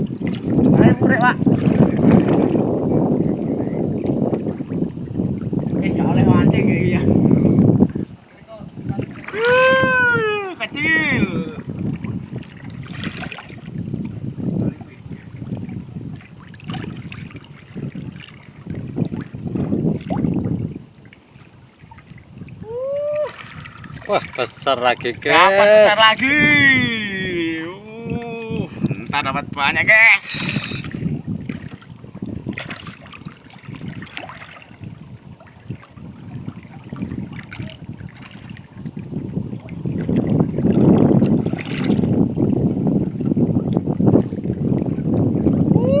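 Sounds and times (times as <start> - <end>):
water sloshing: 0.0 - 45.9
wind buffeting microphone: 0.0 - 46.0.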